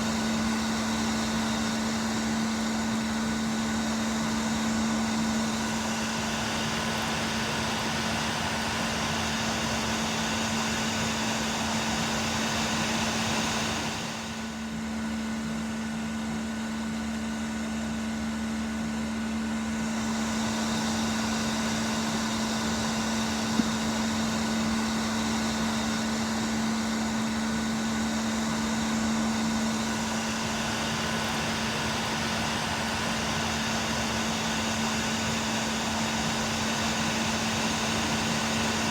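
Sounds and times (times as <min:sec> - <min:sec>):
blower motor running: 0:00.0 - 0:38.9.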